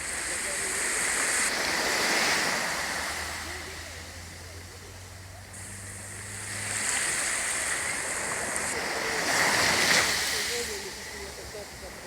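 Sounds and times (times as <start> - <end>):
sea waves washing onto shore: 0.0 - 12.0.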